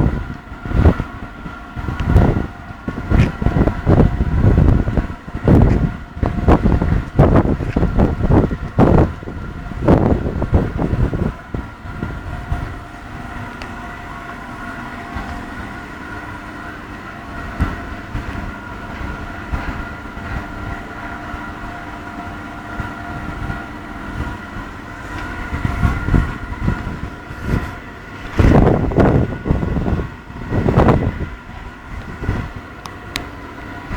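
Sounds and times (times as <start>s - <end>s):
low rumble gusts: 0.0s - 33.9s
machine humming and whining: 0.0s - 33.9s.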